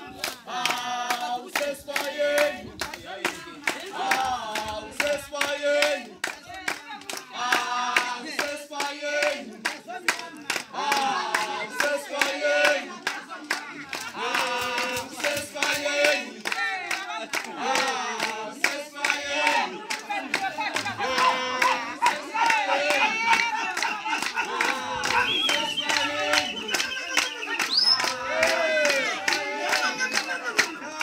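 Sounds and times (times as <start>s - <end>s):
group singing: 0.0s - 31.0s
rhythmic hand clapping: 0.0s - 31.0s.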